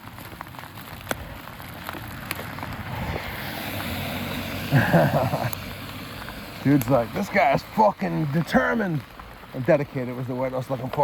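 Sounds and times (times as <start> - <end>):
car driving past on wet road: 0.1 - 9.5.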